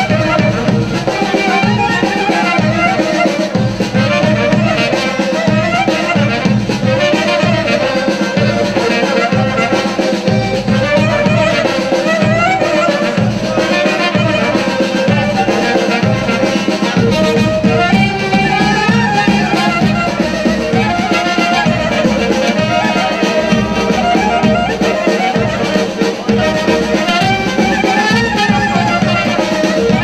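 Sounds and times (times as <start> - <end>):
large drum beating: 0.0 - 30.0
wind instrument melody: 0.0 - 30.0.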